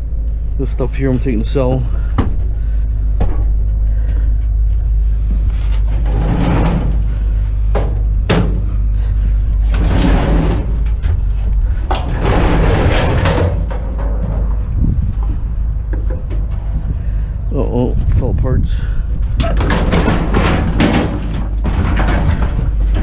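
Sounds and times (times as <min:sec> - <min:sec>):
steady low rumble: 0:00.0 - 0:23.0
knocks and rattling clatter: 0:01.1 - 0:17.1, 0:18.0 - 0:23.0.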